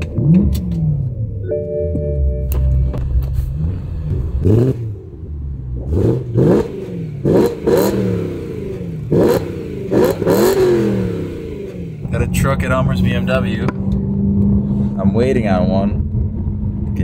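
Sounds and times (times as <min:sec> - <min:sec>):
car engine revving: 0:00.0 - 0:01.4, 0:02.5 - 0:17.0.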